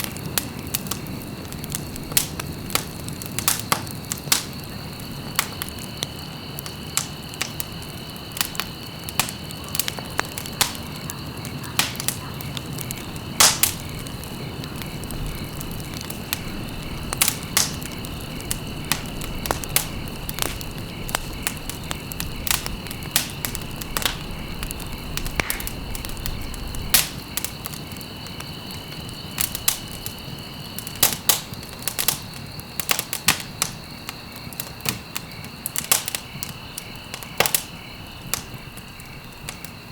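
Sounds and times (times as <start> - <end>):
insect trill: 0.0 - 39.9
wood fire crackling and popping: 0.0 - 39.9.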